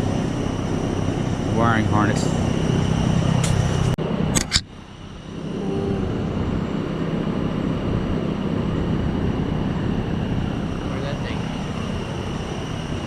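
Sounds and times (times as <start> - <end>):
steady mechanical rumble: 0.0 - 13.0.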